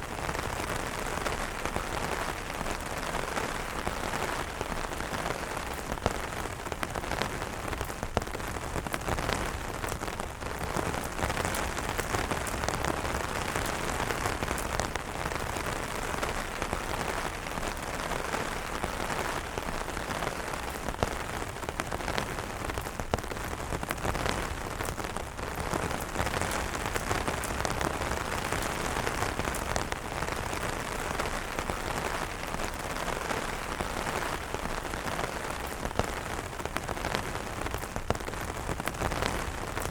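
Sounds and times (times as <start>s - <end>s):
rain on umbrella fabric: 0.0s - 39.9s.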